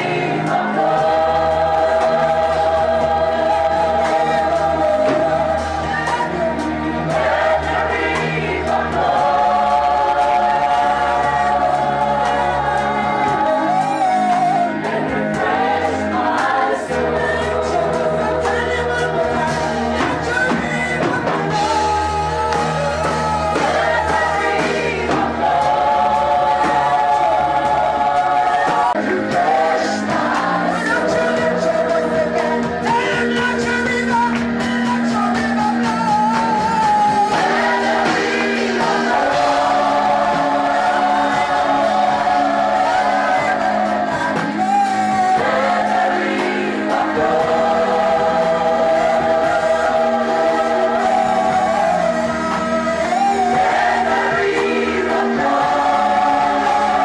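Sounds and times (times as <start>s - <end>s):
sustained instrumental chords: 0.0s - 33.7s, 36.5s - 57.0s
choir singing gospel music: 0.0s - 57.0s.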